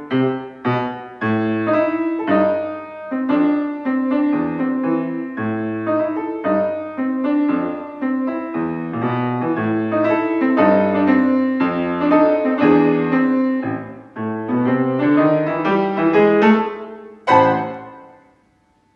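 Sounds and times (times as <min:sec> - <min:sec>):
piano playing melody over chords: 0:00.0 - 0:18.5.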